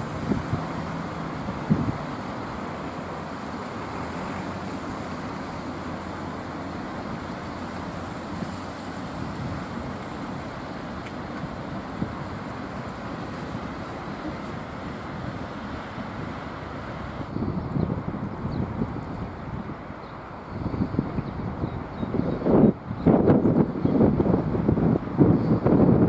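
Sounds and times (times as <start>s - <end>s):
distant road traffic hum: 0.0s - 26.0s.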